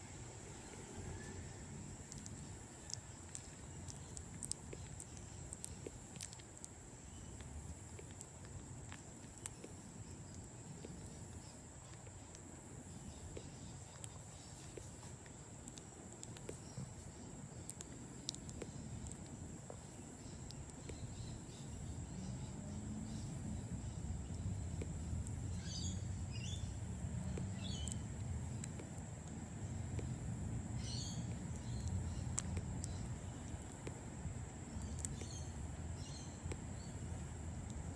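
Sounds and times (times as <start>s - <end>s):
low background rumble: 0.0s - 37.9s
bat chewing wet clicks: 0.6s - 21.7s, 26.4s - 36.7s.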